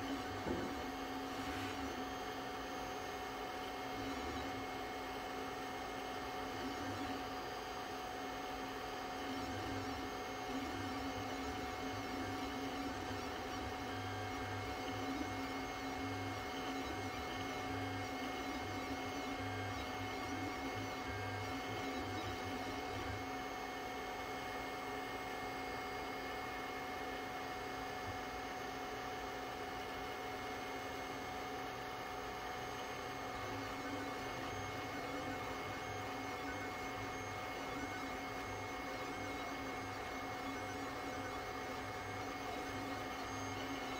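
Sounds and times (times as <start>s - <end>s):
printer electrical hum: 0.0s - 43.9s.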